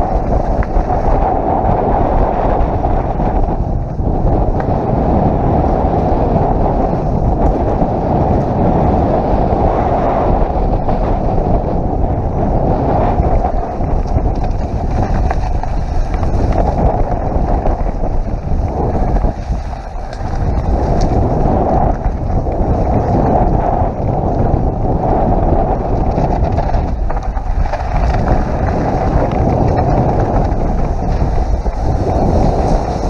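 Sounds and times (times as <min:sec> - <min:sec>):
bike tyres rumbling over dirt: 0:00.0 - 0:33.0
wind buffeting microphone: 0:00.0 - 0:33.0.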